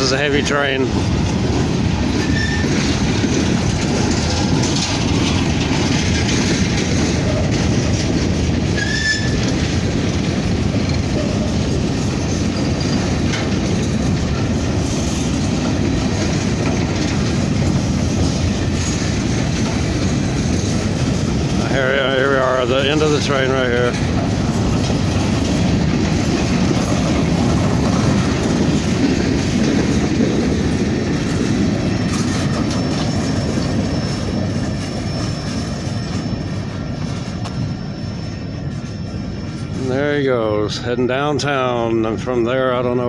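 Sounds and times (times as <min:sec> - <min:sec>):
wheels clacking over rail joints: 0:00.0 - 0:40.0
wheel squeals: 0:00.0 - 0:40.8
freight cars rumbling on rails: 0:00.0 - 0:43.0.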